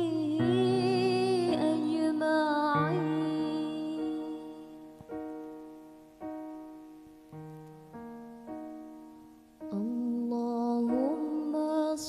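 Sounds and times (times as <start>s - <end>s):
soft keyboard chords: 0.0s - 12.0s.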